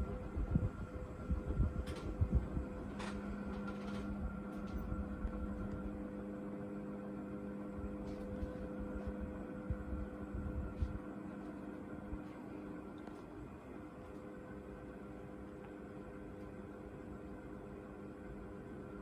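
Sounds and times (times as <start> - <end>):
ceiling fan motor humming: 0.0 - 19.0.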